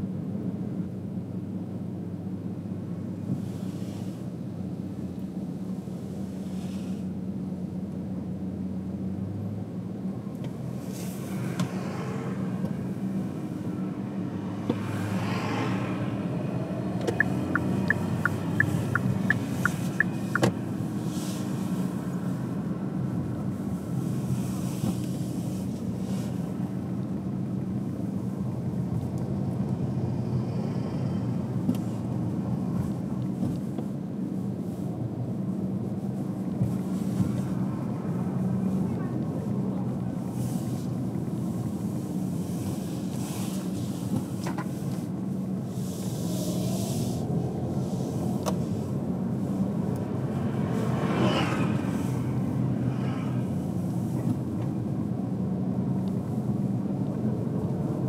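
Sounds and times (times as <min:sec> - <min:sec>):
car engine and tyres humming: 0:00.0 - 0:58.0
vehicles passing: 0:03.2 - 0:58.0.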